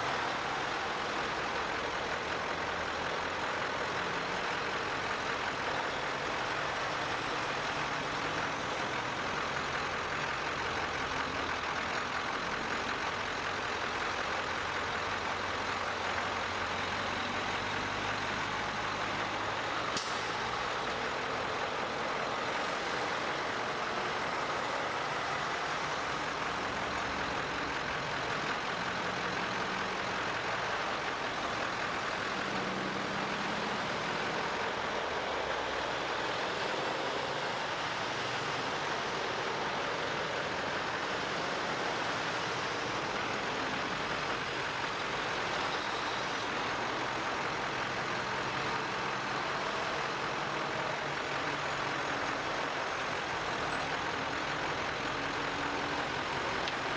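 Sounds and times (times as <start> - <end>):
trucks driving past: 0.0 - 56.9.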